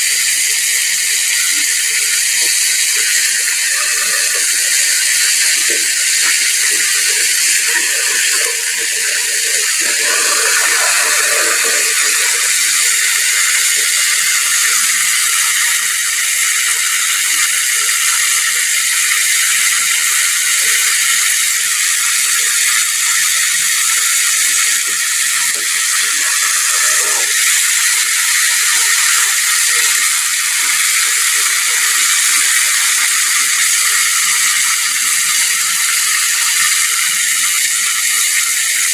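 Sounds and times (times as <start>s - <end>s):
oil sizzling and crackling: 0.0s - 38.9s.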